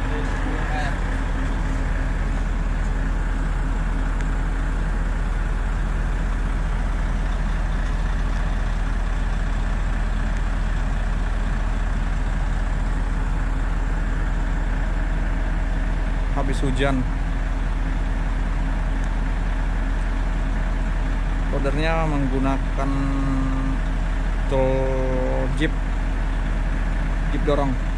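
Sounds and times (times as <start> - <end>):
diesel engine rumbling: 0.0 - 27.9.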